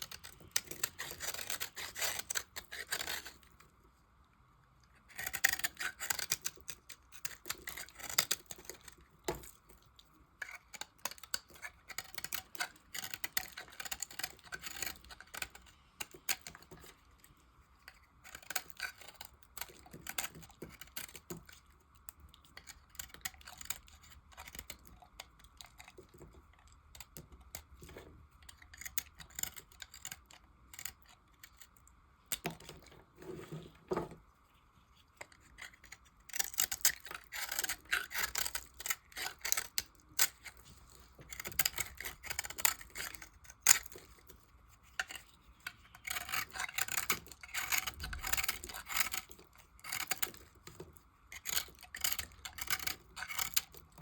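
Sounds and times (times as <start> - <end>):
knife crackling through soap: 0.0 - 3.7, 5.0 - 33.9, 35.0 - 54.0.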